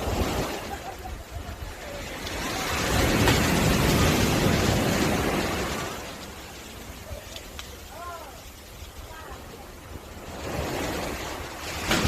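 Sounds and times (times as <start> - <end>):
waves breaking on a beach: 0.0 - 12.0
wind rumble on microphone: 0.0 - 12.0.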